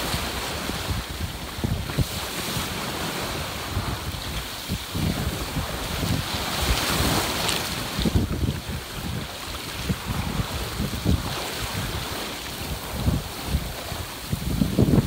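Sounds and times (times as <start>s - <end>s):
water rushing along a hull: 0.0s - 15.0s
wind buffeting microphone: 0.0s - 15.0s.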